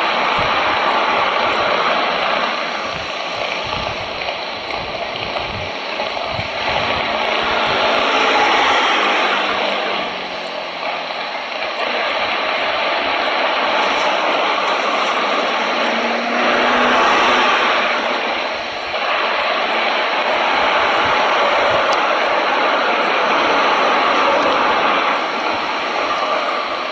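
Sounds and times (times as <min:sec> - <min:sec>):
jet engines at taxi power: 0:00.0 - 0:26.9.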